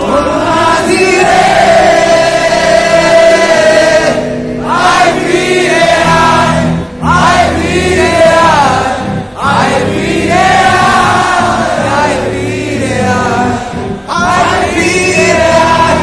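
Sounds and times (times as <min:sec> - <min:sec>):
audience singing along: 0:00.0 - 0:16.0
voices singing with band: 0:00.0 - 0:16.0.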